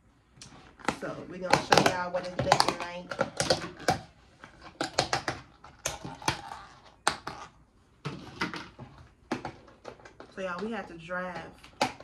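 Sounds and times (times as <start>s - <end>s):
plastic lids clicking and crackling: 0.4s - 12.0s.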